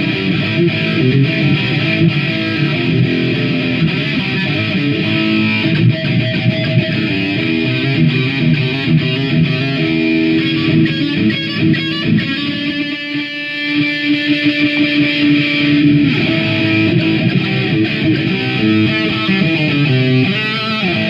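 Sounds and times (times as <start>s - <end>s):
electric guitar riff: 0.0s - 21.0s.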